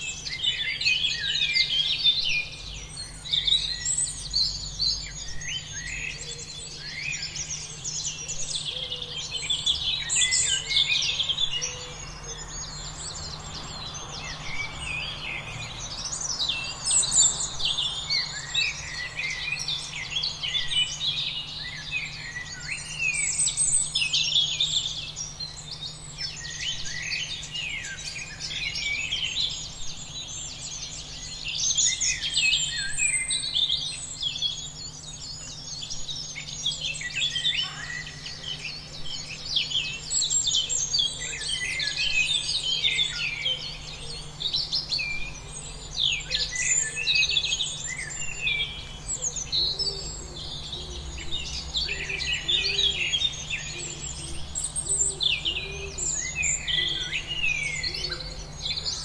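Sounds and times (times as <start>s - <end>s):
small birds chirping and singing: 0.0s - 59.0s.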